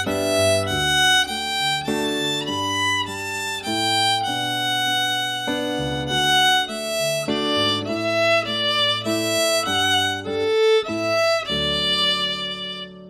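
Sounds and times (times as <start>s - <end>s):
fiddle playing lively tune: 0.0s - 13.0s.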